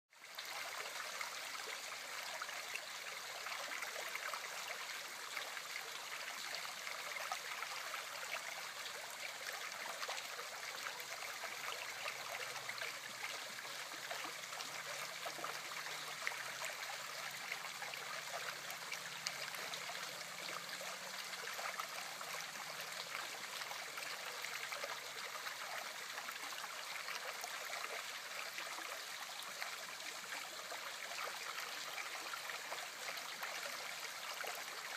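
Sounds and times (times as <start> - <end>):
river water rippling and splashing: 0.1 - 34.9.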